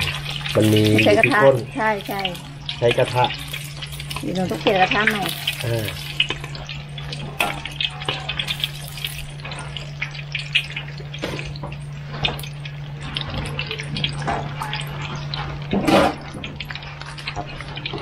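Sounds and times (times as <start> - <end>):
eggs sizzling in hot oil: 0.0 - 18.0.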